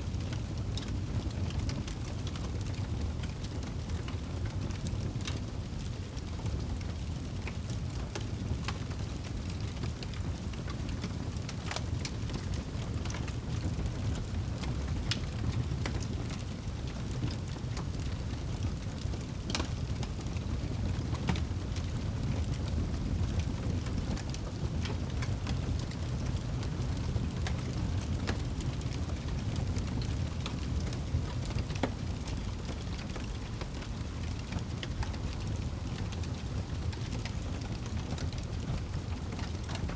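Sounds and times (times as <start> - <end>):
wood fire burning: 0.0 - 39.9
fire crackles and pops: 0.1 - 39.9.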